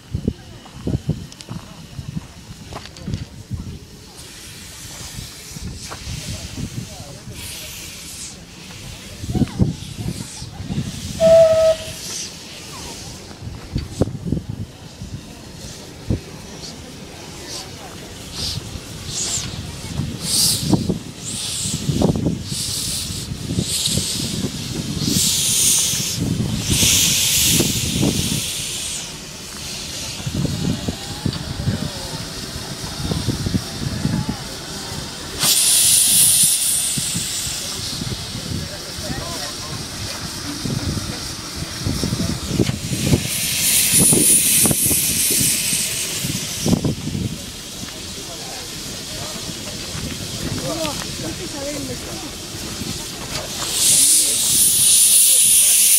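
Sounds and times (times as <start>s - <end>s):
steam locomotive chuffing: 0.0s - 55.9s.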